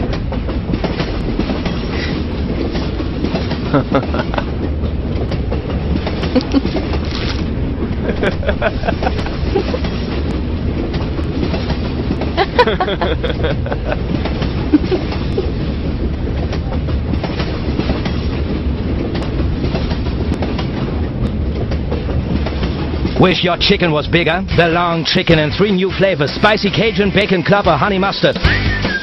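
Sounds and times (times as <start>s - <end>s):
wheels clicking and rattling: 0.0s - 26.8s
subway train rumble: 0.0s - 29.0s.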